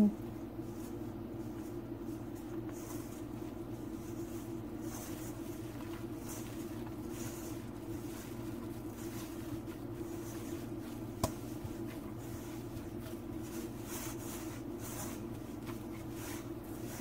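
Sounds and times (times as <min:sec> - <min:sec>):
dough squishing being kneaded: 0:00.0 - 0:17.0
steady low hum: 0:00.0 - 0:17.0.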